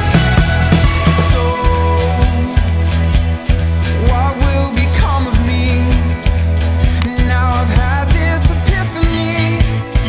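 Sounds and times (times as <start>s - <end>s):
song with drum beat: 0.0s - 10.0s.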